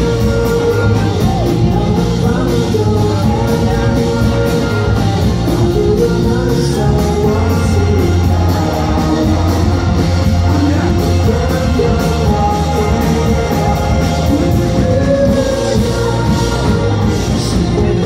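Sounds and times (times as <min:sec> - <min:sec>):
bass guitar: 0:00.0 - 0:18.0
drums: 0:00.0 - 0:18.0
electric guitar: 0:00.0 - 0:18.0
person singing: 0:00.0 - 0:18.0.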